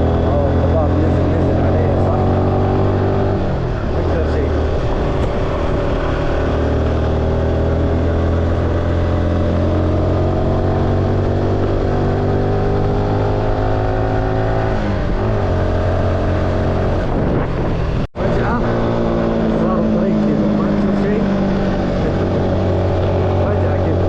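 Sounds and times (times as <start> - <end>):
car engine climbing uphill: 0.0 - 24.0.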